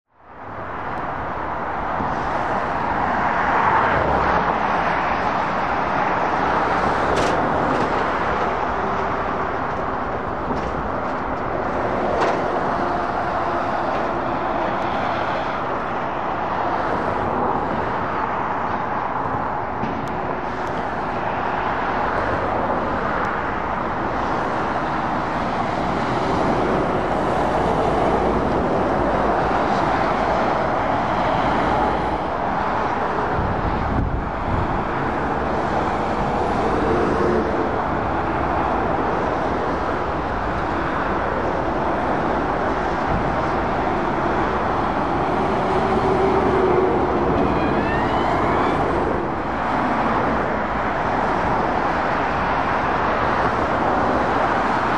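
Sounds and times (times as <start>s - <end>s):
road traffic passing: 0.1s - 54.9s.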